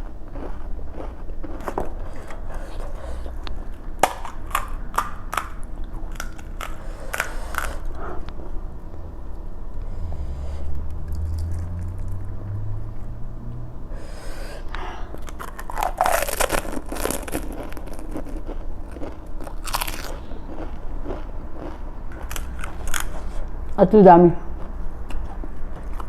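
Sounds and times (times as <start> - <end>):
crunching and chewing crisp shells: 0.0 - 9.0, 10.9 - 12.3, 14.3 - 23.8, 24.4 - 26.0.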